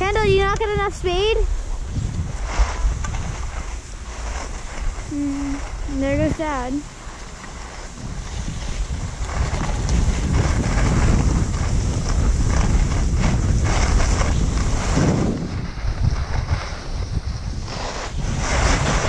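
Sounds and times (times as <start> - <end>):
skis scraping over snow: 0.0 - 19.0
wind buffeting microphone: 0.0 - 19.0.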